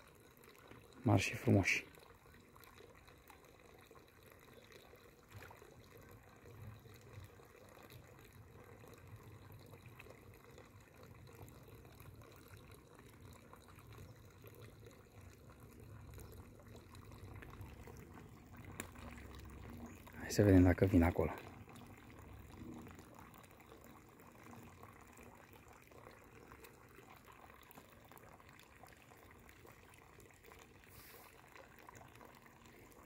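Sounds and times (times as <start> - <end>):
fish feeding at water surface: 0.0 - 33.0
soft water plops: 0.2 - 33.0.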